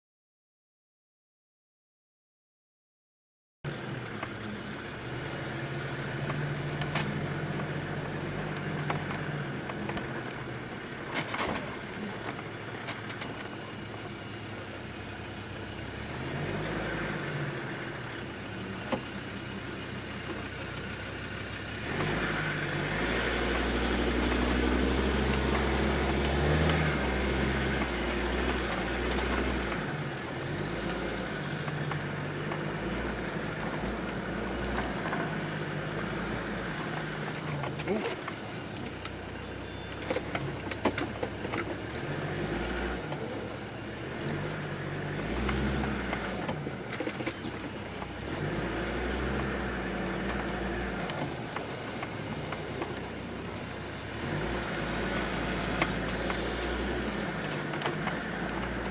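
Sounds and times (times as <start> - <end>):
diesel engine running in cab: 3.7 - 58.9.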